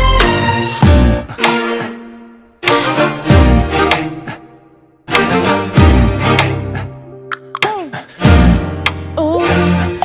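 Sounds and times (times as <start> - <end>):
background music with pitched notes: 0.0 - 10.0.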